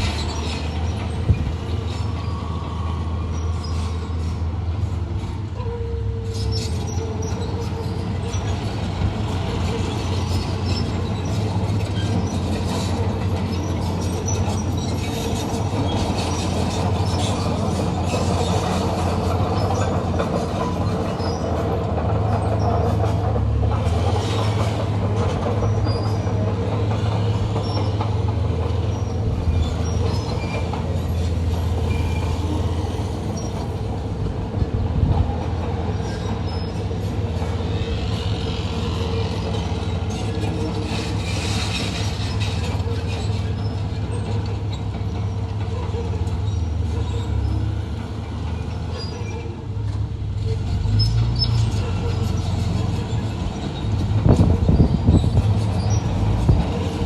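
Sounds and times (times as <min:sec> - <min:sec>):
bulldozer diesel engine humming: 0:00.0 - 0:57.0
steel tracks clanking and squealing: 0:00.0 - 0:57.0.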